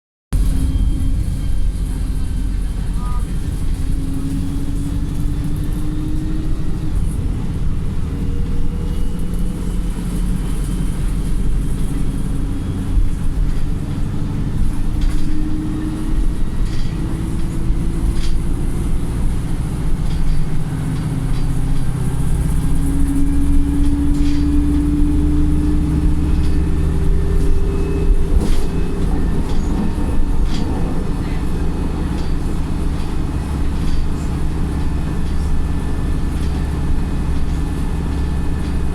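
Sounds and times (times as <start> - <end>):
bus engine accelerating: 0.3 - 38.9.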